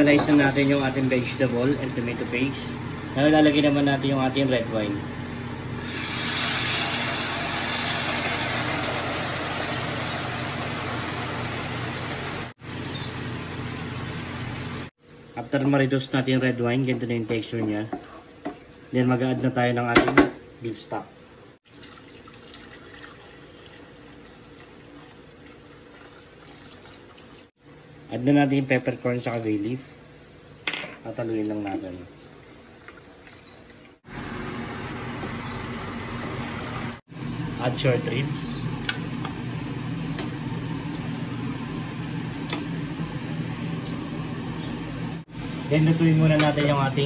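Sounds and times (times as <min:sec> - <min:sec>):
low mechanical hum with hiss: 0:00.0 - 0:47.0.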